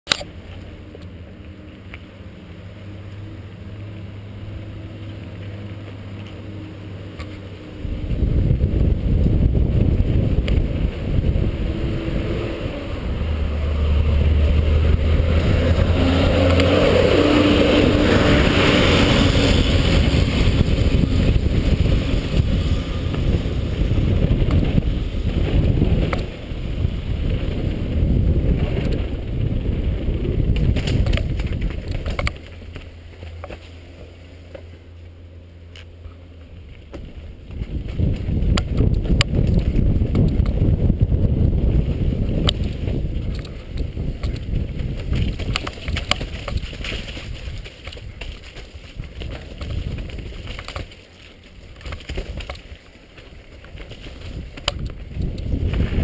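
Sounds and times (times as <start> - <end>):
bike rattling on rough trail: 0.1 - 56.0
wind noise: 4.2 - 34.0, 36.0 - 56.0.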